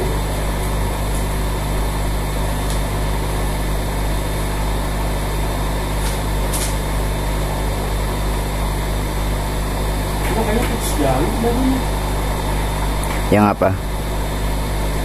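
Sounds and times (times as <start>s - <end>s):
hot-air rework station blowing: 0.0s - 15.0s.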